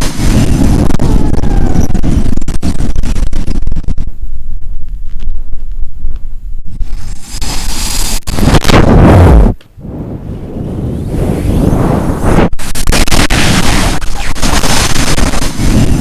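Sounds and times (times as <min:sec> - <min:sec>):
strong wind with rain: 0:00.0 - 0:16.0.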